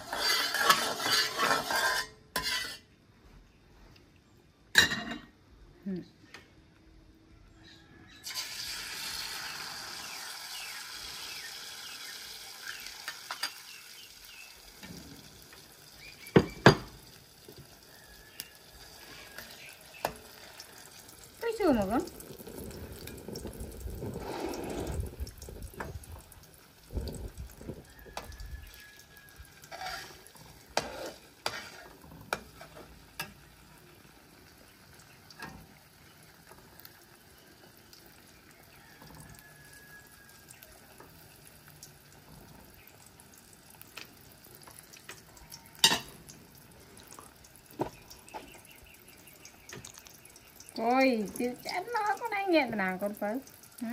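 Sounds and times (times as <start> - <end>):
egg sizzling in hot wok: 0.0 - 2.9, 8.2 - 53.9.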